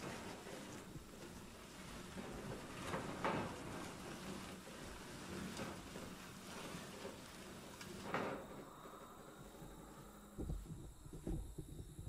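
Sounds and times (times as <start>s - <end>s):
wooden coop scraping across grass: 0.0s - 9.8s.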